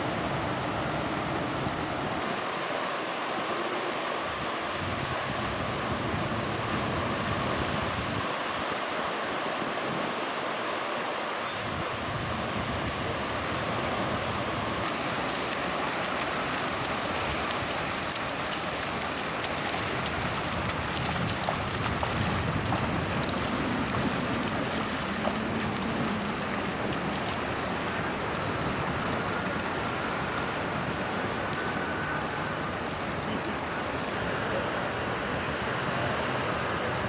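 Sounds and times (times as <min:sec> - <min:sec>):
sea waves: 0:00.0 - 0:37.0
wind: 0:00.0 - 0:37.0.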